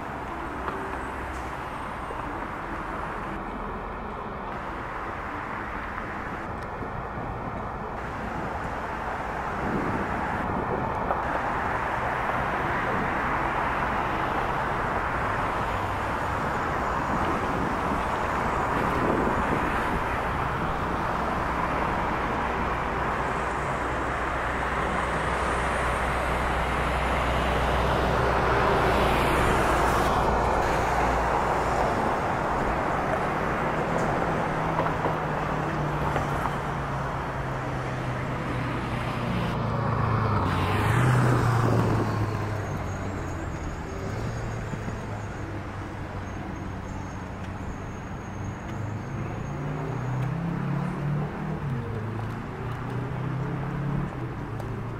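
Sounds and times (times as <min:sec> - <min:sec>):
road traffic: 0:00.0 - 0:54.9.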